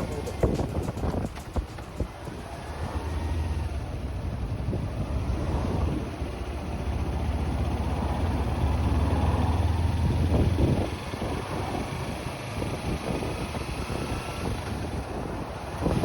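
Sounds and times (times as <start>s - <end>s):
motorcycle engine humming: 0.0s - 16.0s.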